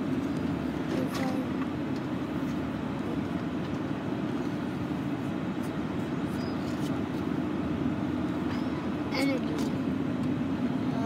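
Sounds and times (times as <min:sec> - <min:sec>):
vehicle running rumble: 0:00.0 - 0:11.0.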